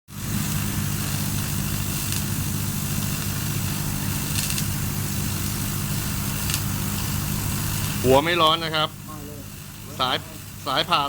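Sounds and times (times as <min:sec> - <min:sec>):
welding arc buzzing and hissing: 0:00.1 - 0:11.0.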